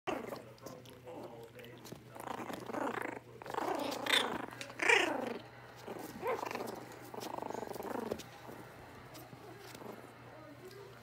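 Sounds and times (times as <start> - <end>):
puppies growling: 0.1 - 11.0.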